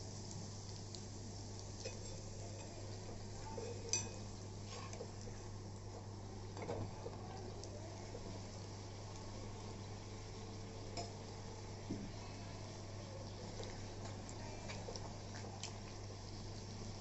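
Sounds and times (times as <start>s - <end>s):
bread sizzling in oil: 0.0s - 17.0s.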